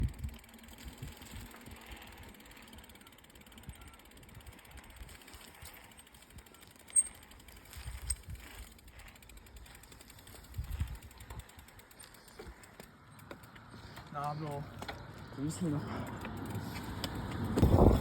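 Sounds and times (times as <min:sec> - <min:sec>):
bike freehub ticking: 0:00.0 - 0:18.0
bike riding bumps and rumbles: 0:00.0 - 0:18.0.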